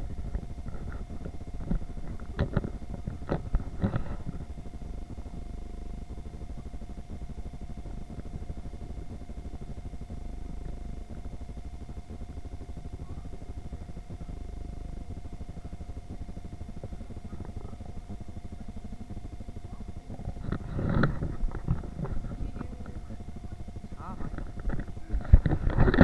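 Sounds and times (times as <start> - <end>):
constant hum: 0.0 - 26.0.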